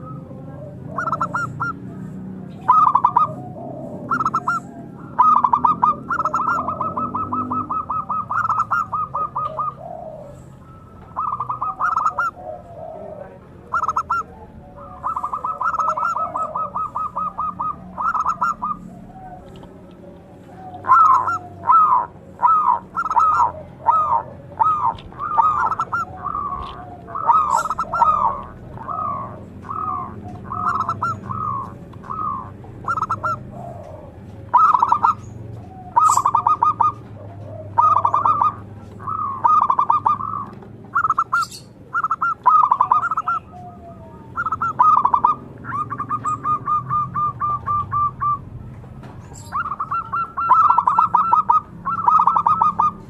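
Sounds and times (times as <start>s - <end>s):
doves cooing: 0.0s - 53.0s.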